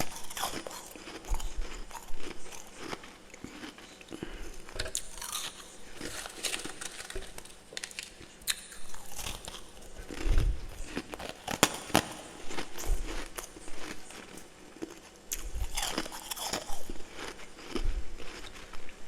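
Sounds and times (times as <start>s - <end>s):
crunching and chewing frost: 0.0s - 19.0s.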